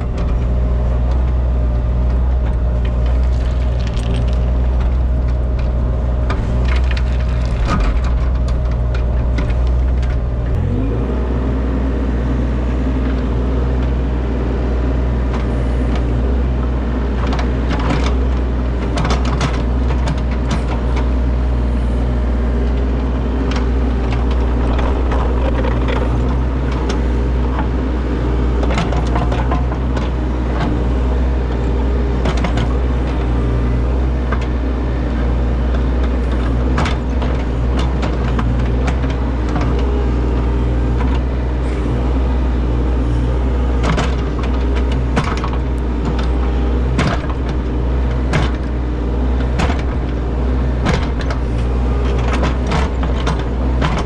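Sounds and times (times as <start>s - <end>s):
diesel machine running: 0.0s - 54.0s.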